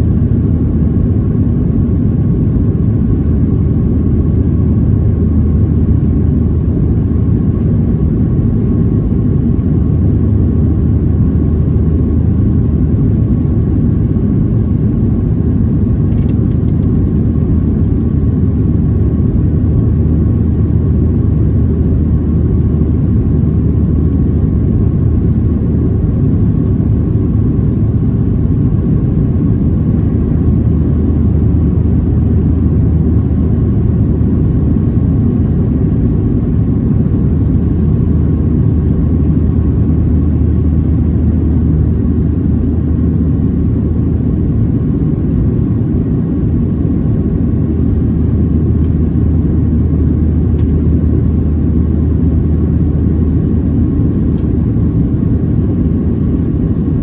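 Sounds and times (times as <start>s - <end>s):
faint steady whine: 0.0s - 57.0s
jet engine cabin rumble: 0.0s - 57.0s.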